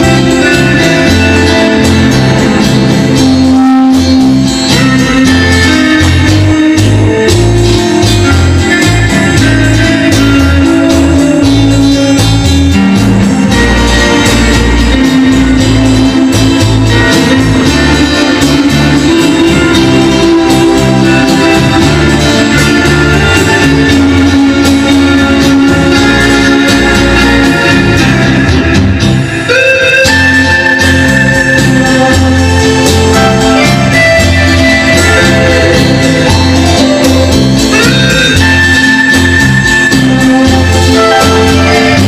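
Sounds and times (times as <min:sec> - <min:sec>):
vintage rock and roll record: 0:00.0 - 0:42.0.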